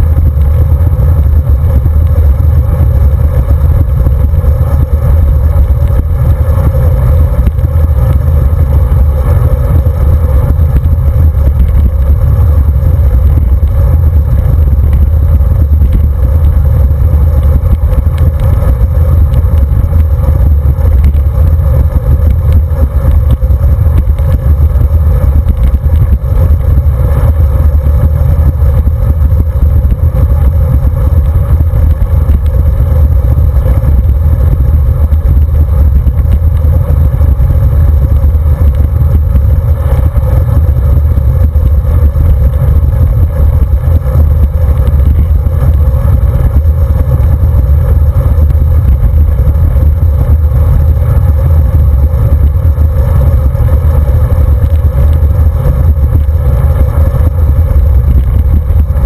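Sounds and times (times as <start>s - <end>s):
tyre vibration on asphalt: 0.0s - 59.0s
wind rumble on microphone: 0.0s - 59.0s.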